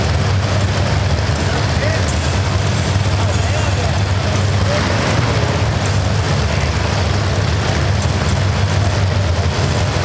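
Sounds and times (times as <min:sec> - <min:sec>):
loud background noise: 0:00.0 - 0:10.0.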